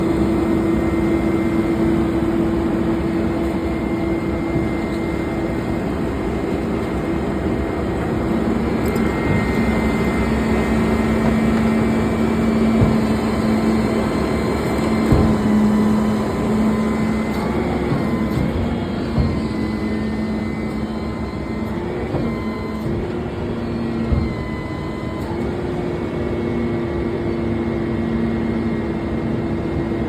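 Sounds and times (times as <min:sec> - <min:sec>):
garbage truck compactor running: 0:00.0 - 0:30.0.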